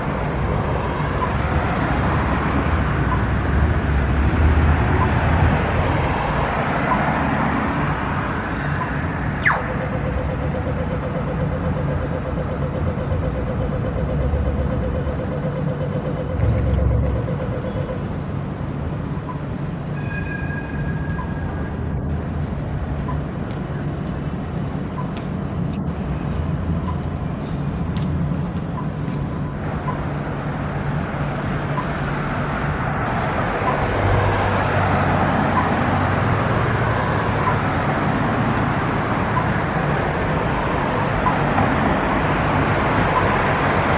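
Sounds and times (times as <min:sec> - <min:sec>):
road traffic with engines: 0:00.0 - 0:43.9.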